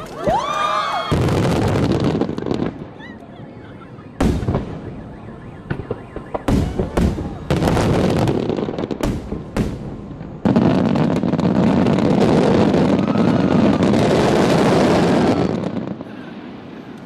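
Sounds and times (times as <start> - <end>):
firework bursts: 0.0 - 17.0
fireworks rumble with crackling: 0.0 - 17.0.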